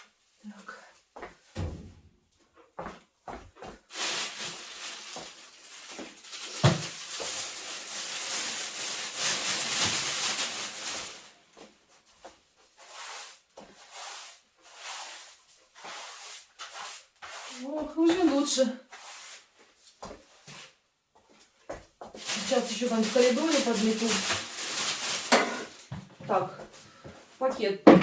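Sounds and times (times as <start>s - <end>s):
broom sweeping floor: 2.8s - 27.5s.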